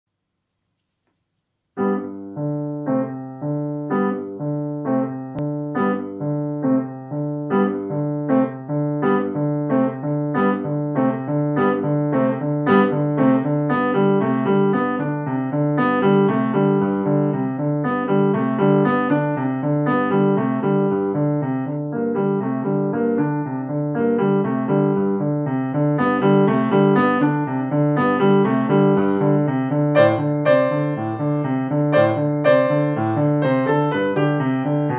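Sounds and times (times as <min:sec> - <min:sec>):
grand piano playing chords: 0:01.7 - 0:34.9.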